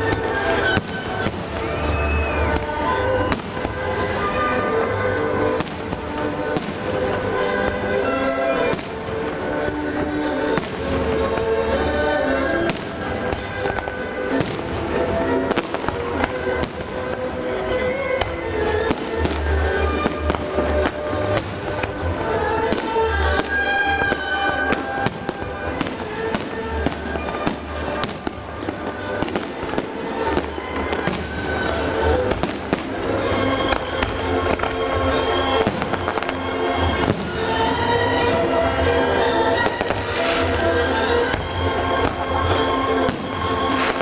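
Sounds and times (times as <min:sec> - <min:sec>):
loud music: 0:00.0 - 0:44.0.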